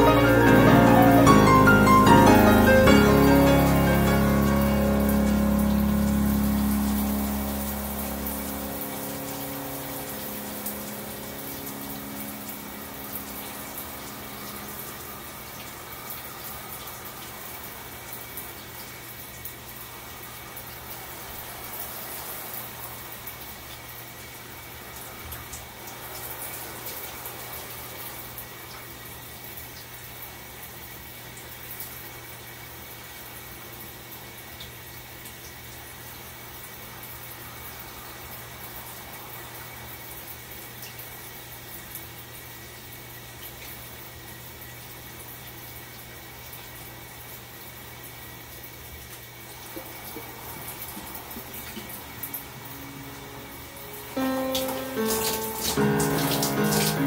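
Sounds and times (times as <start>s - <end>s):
shower water hissing: 0.0s - 57.0s.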